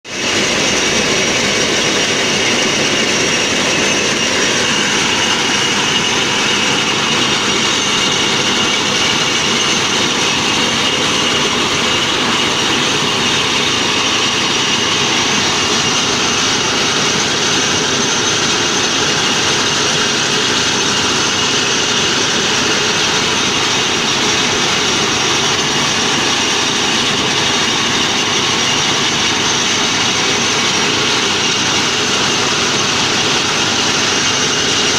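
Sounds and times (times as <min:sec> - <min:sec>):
corn sheller running: 0:00.0 - 0:34.9
high mechanical whine: 0:00.0 - 0:34.9.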